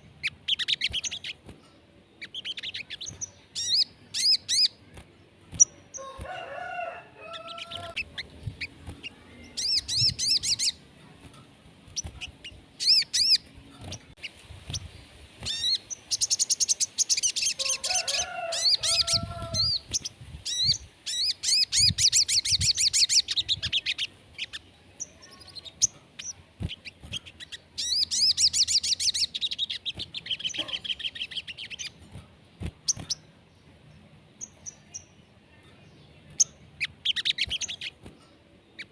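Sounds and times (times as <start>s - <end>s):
songbird chattering trills: 0.0s - 1.4s, 2.1s - 4.9s, 7.2s - 10.8s, 11.8s - 32.0s, 34.4s - 38.9s.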